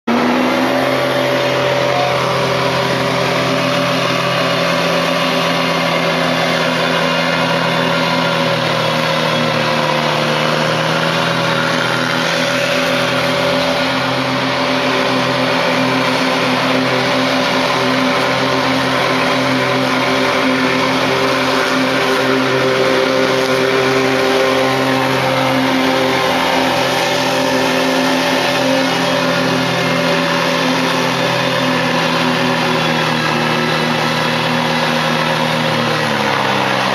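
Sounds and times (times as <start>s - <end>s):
mower engine running: 0.0s - 36.9s.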